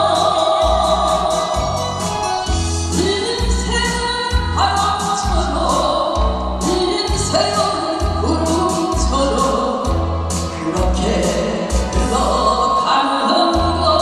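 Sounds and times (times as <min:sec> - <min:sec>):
woman singing into microphone: 0:00.0 - 0:01.8, 0:02.9 - 0:09.9, 0:10.5 - 0:14.0
backing track with pulsing bass: 0:00.0 - 0:12.8, 0:13.5 - 0:14.0.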